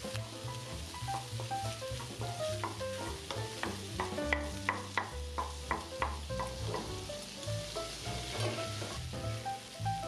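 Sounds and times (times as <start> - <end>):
background music: 0.0 - 10.0
shrimp sizzling in a frying pan: 0.0 - 10.0
wooden spatula stirring: 0.2 - 9.1.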